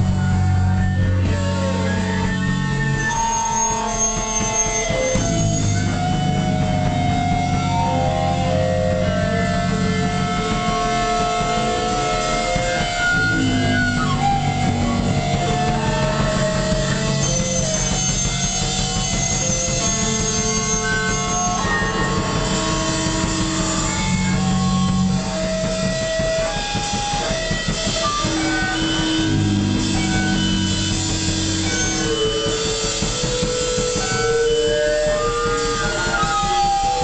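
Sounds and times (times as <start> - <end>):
electric guitar held notes: 0.0 - 37.0
live band playing: 0.0 - 37.0.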